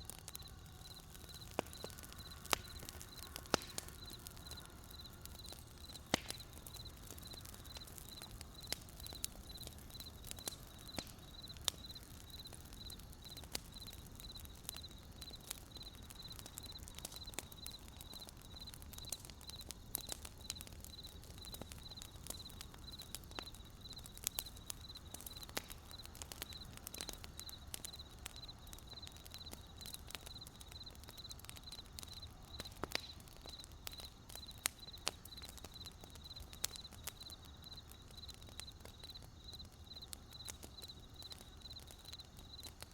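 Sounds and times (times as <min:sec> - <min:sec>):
campfire crackling: 0:00.0 - 0:42.9
fire pops: 0:00.0 - 0:42.9
cricket chirping: 0:00.1 - 0:42.9.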